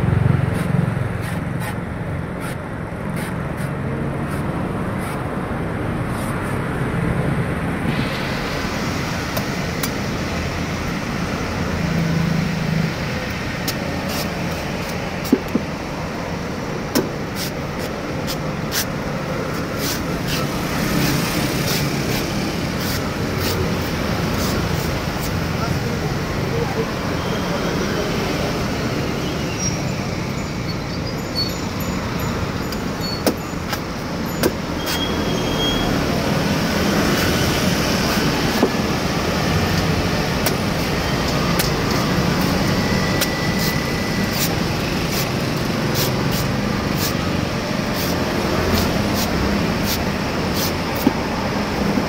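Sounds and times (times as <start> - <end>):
street traffic noise: 0.0 - 52.0.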